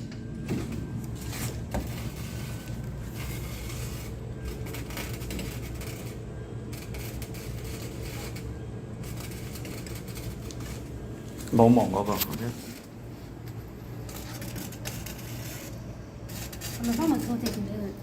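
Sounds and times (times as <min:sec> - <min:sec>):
arc welding crackling: 0:00.0 - 0:18.0.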